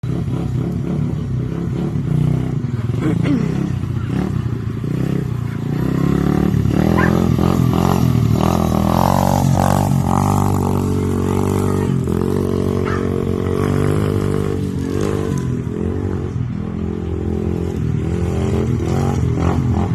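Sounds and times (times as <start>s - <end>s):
dirt bike engine revving: 0.0s - 19.9s.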